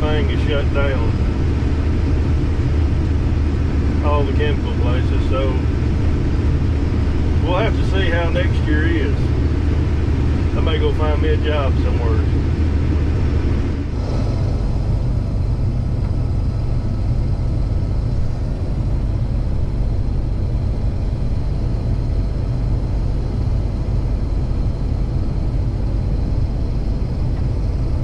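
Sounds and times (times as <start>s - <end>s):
combine engine droning: 0.0s - 28.0s.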